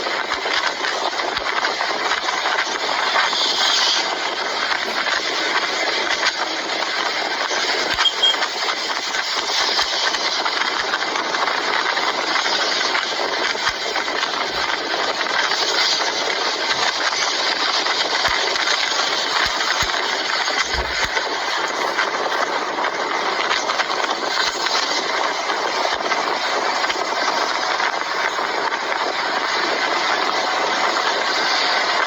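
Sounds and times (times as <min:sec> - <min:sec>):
engine running steadily: 0:01.0 - 0:32.0.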